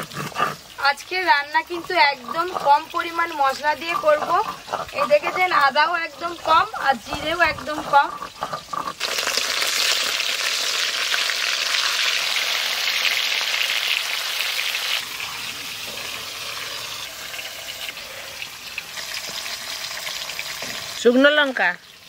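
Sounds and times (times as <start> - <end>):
fish frying in oil: 0.6 - 22.0.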